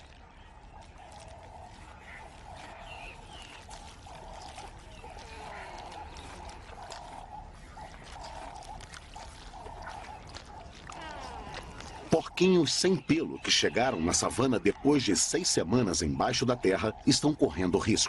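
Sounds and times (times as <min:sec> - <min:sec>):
warthog rustling in grass: 0:00.0 - 0:18.0.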